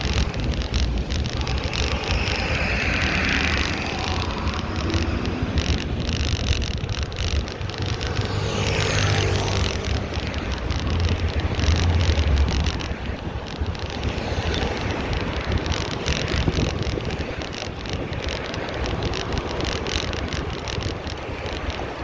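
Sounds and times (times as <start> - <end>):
cars passing: 0.0 - 22.0
wind rumble on microphone: 0.0 - 22.0.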